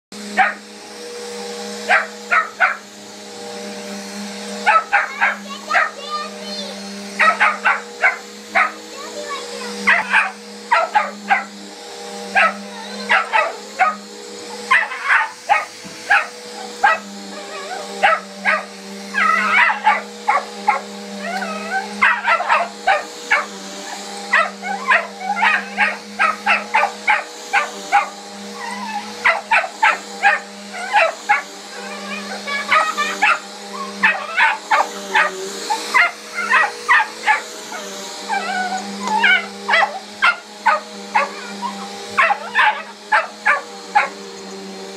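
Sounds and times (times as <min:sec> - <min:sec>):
vacuum cleaner motor hum: 0:00.1 - 0:44.9
puppy barking and yipping: 0:00.4 - 0:00.6, 0:01.8 - 0:02.9, 0:04.6 - 0:06.2, 0:07.1 - 0:09.1, 0:09.8 - 0:11.5, 0:12.3 - 0:44.3.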